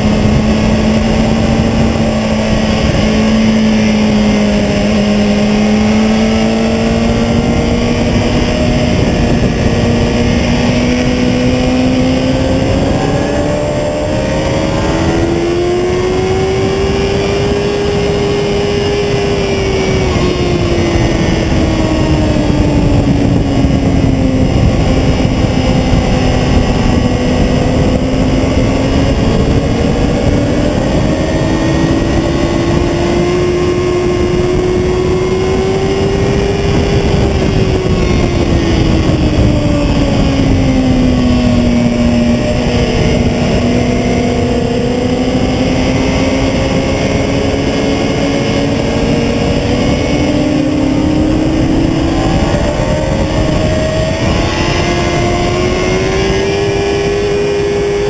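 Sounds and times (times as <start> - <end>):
motorcycle engine: 0.0 - 58.0
wind rush: 0.0 - 58.0.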